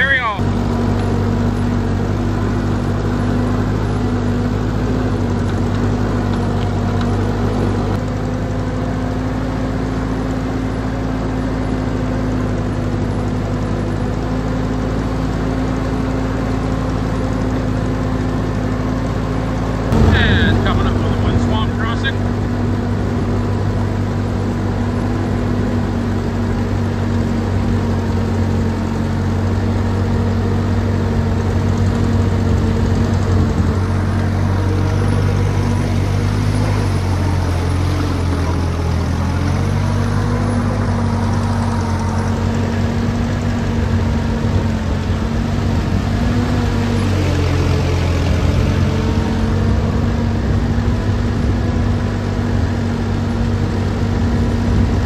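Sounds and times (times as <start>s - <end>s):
second tractor running: 0.0s - 55.0s
tractor engine running: 0.0s - 55.0s.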